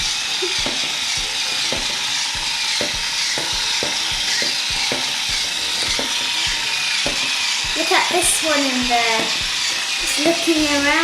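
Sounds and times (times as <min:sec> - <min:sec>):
small motors hissing and whining: 0:00.0 - 0:11.0.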